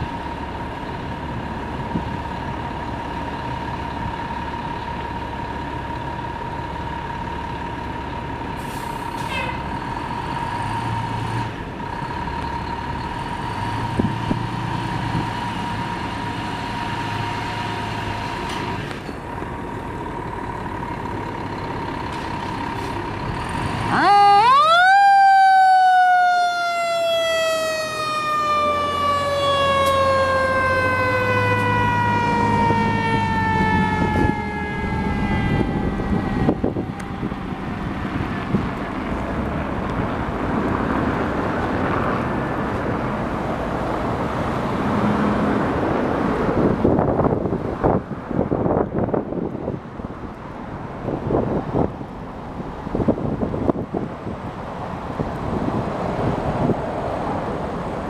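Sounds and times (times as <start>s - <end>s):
fire engine running: 0.0s - 58.0s.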